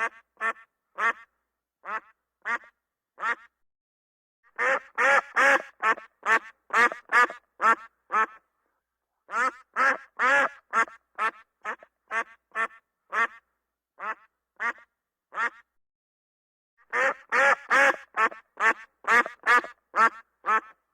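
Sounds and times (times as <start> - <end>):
duck quacking: 0.0 - 3.5, 4.6 - 8.5, 9.3 - 13.4, 14.0 - 15.7, 16.9 - 20.8.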